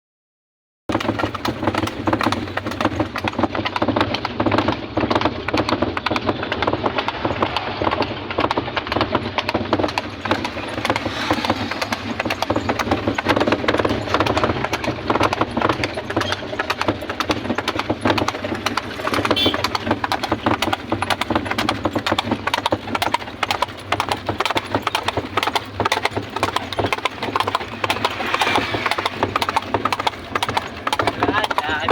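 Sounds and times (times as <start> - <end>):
horse hooves clip-clopping: 0.9 - 31.9.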